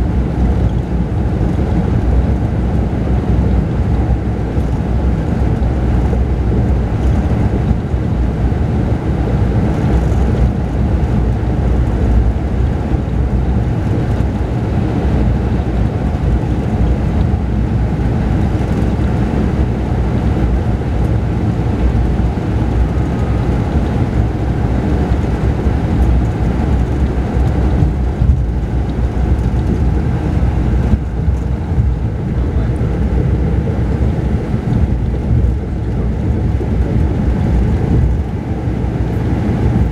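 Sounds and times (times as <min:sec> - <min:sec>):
diesel engine running: 0:00.0 - 0:39.9
road and tyre rumble: 0:00.0 - 0:39.9.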